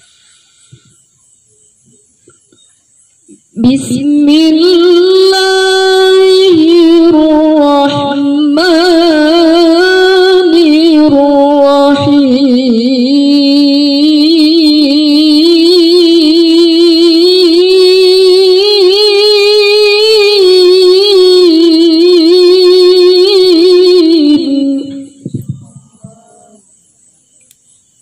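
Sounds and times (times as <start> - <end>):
woman chanting melodically: 3.3 - 26.8.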